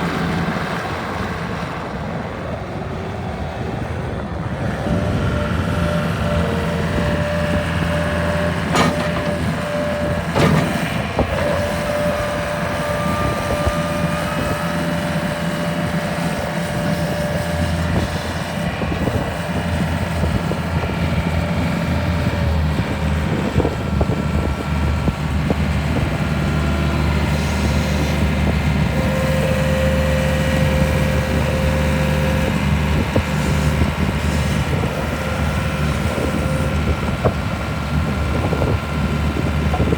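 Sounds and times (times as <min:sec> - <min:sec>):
skid steer loader engine running: 0:00.0 - 0:39.9.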